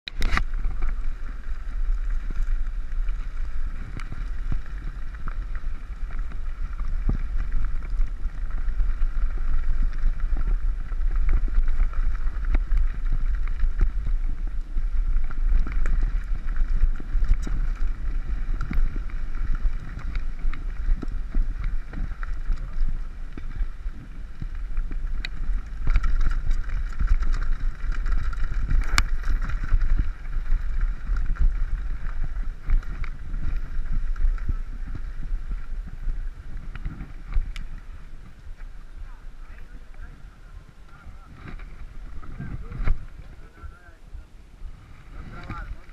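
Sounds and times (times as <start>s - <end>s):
wind rumbling over camera: 0.0s - 45.9s
bike rattling and clicking: 0.1s - 44.0s, 45.0s - 45.9s.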